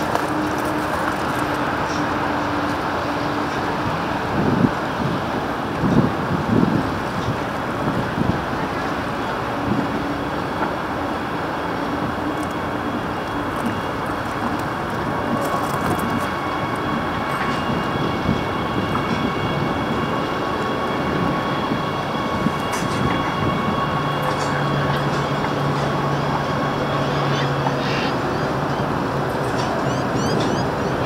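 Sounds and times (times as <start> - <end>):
thin steady whine: 0.0 - 31.0
train wheels rumbling on rails: 0.0 - 31.0.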